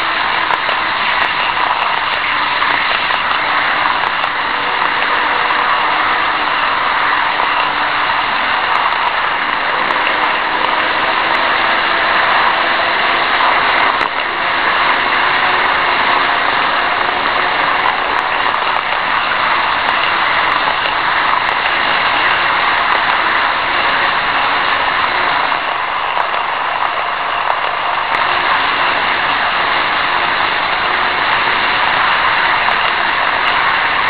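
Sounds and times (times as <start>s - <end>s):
faint wavering motor whine: 0.0s - 34.0s
model train wheels on rails: 0.0s - 34.0s.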